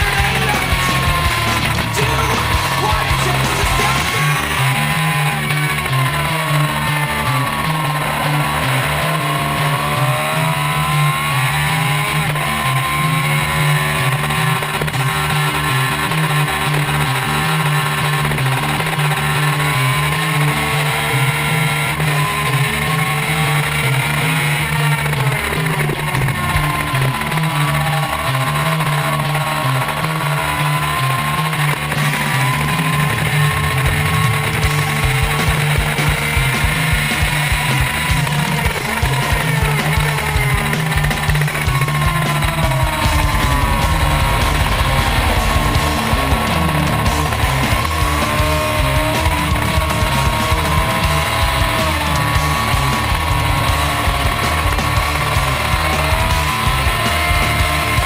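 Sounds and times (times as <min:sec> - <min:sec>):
motorbike engine at full throttle: 0:00.0 - 0:58.0
rock music: 0:00.0 - 0:58.0.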